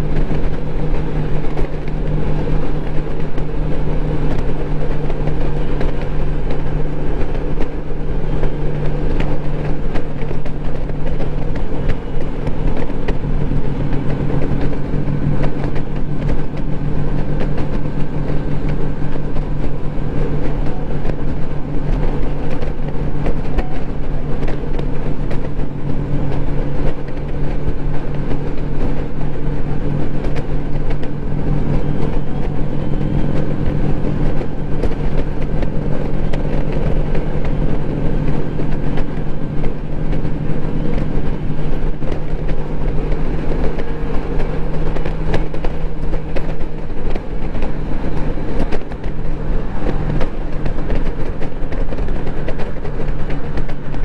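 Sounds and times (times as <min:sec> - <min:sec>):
motorcycle engine drone: 0:00.0 - 0:54.0
wind and road noise: 0:00.0 - 0:54.0.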